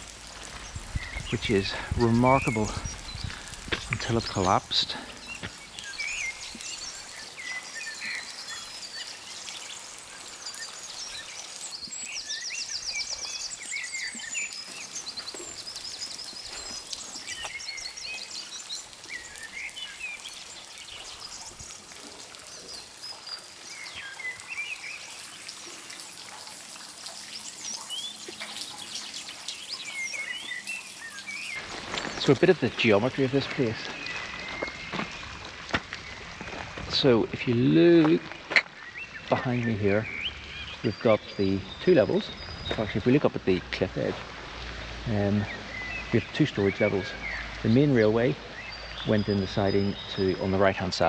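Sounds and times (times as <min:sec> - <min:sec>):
light rain hiss: 0:00.0 - 0:51.0
songbirds chirping and singing: 0:00.0 - 0:51.0.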